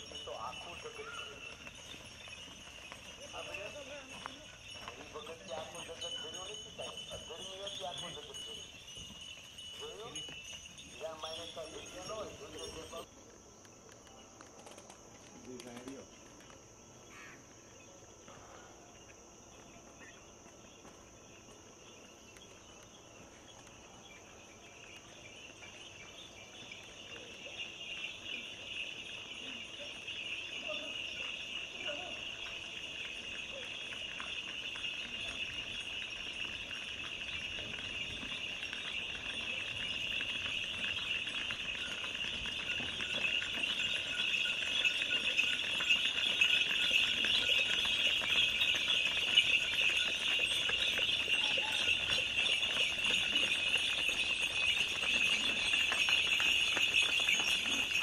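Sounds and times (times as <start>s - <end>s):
cattle bells jingling: 0.0s - 13.5s, 19.4s - 58.0s
insects droning: 0.0s - 58.0s.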